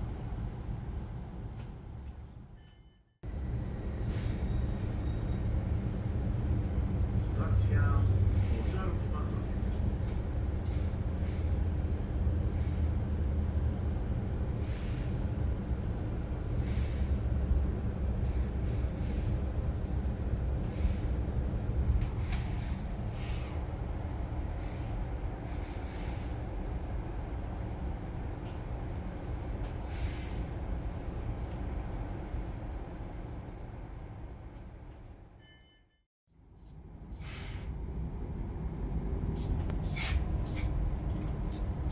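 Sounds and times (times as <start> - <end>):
train wheels rumbling on track: 3.3 - 35.1, 37.0 - 41.9.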